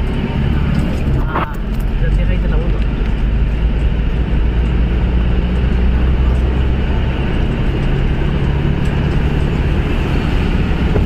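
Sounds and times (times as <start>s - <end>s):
road vehicle engine and tyre rumble: 0.0s - 11.0s.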